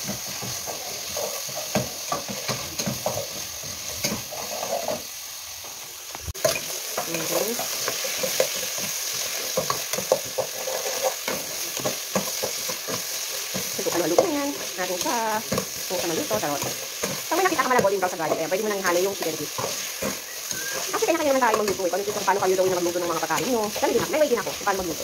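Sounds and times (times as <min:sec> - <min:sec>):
food sizzling in oil: 0:00.0 - 0:25.0
spoon scraping a metal pan: 0:00.2 - 0:05.1, 0:06.4 - 0:25.0.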